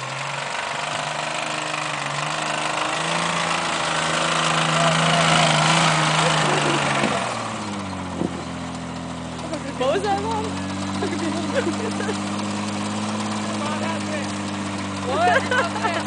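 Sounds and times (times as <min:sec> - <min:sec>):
truck engine running hard: 0:00.0 - 0:16.0.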